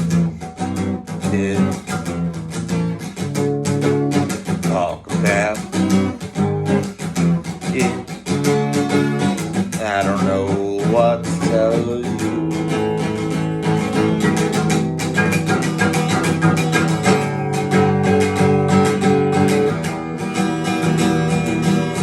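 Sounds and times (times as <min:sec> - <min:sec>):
acoustic guitar strumming chords: 0:00.0 - 0:22.0
guitar melody with bending pitch: 0:00.0 - 0:22.0.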